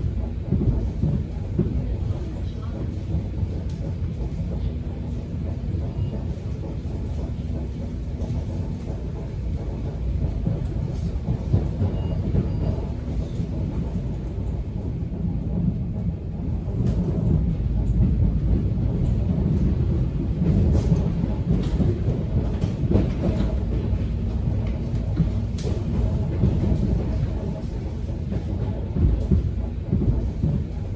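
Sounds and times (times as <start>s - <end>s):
subway car rumble: 0.0s - 30.9s.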